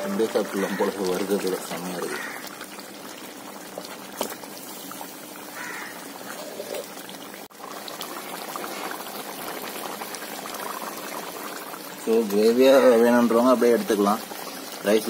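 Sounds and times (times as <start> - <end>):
curry bubbling in a pan: 0.2 - 15.0.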